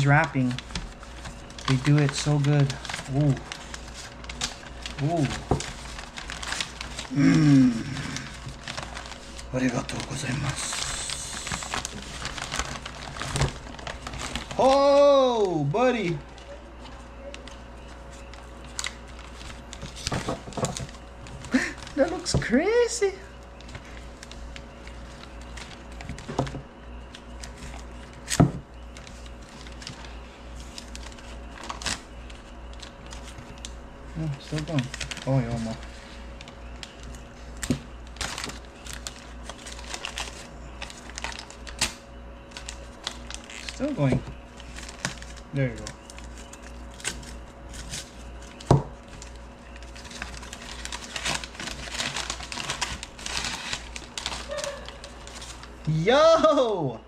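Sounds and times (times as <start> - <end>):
paper packaging crinkling: 0.0 - 56.4.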